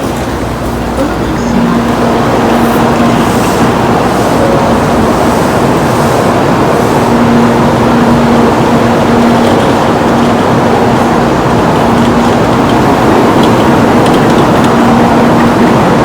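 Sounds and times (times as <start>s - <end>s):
train rushing noise: 0.0s - 16.0s.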